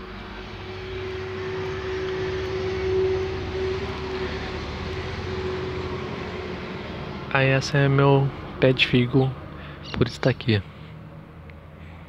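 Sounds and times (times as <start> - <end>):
mechanical drone with hum: 0.0 - 10.4.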